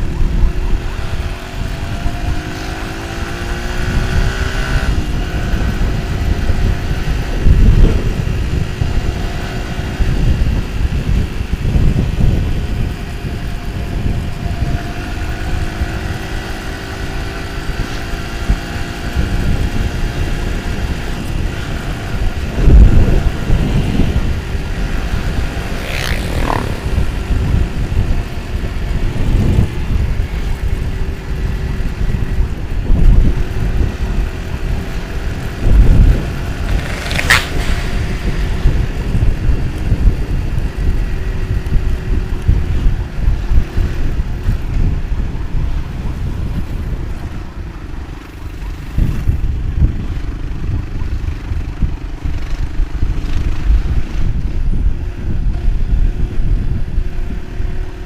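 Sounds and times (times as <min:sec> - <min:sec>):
motorcycle engine: 0:00.0 - 0:58.0
wind buffeting microphone: 0:00.0 - 0:58.0.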